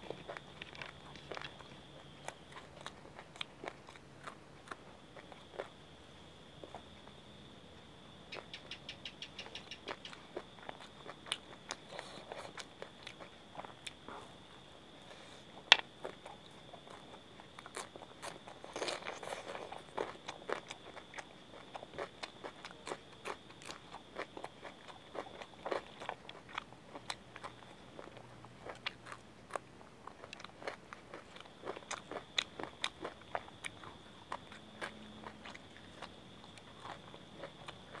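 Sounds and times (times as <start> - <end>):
crunching and chewing food: 0.0 - 38.0
faint high-pitched whine: 0.0 - 38.0.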